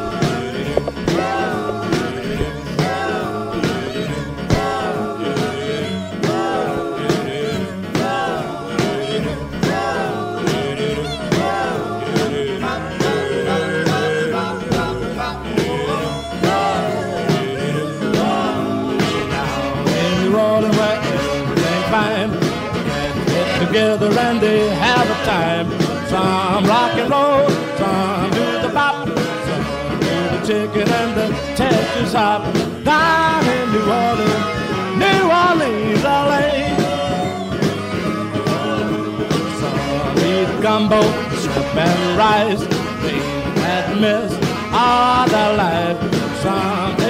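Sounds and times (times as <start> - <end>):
rock and roll song: 0.0 - 47.0.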